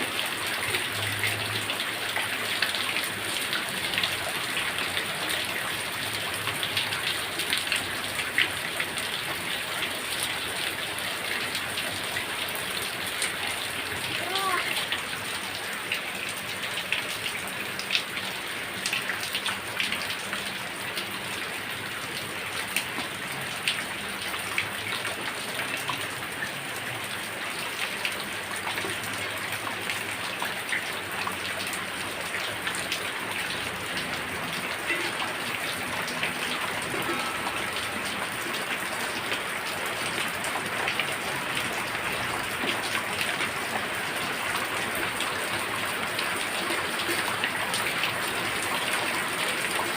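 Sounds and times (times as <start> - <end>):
raindrops ticking close by: 0.0 - 49.9.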